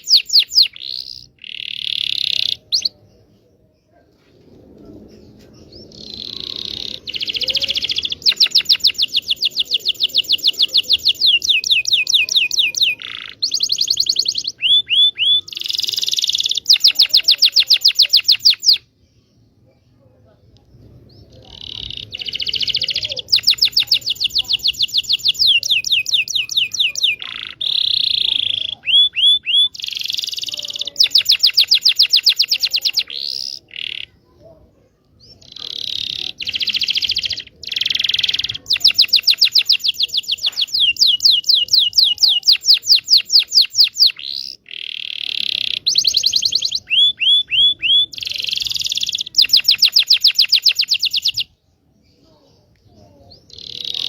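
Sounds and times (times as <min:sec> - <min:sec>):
canary singing trills: 0:00.0 - 0:03.3, 0:05.6 - 0:19.2, 0:21.0 - 0:34.5, 0:35.1 - 0:54.0.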